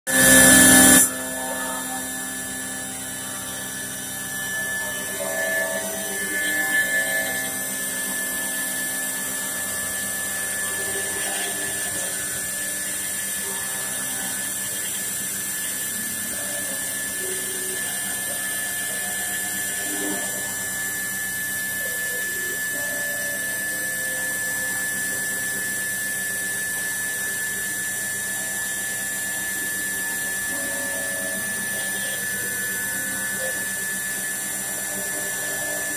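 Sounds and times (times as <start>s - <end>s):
router spindle high whine: 0.1s - 35.9s.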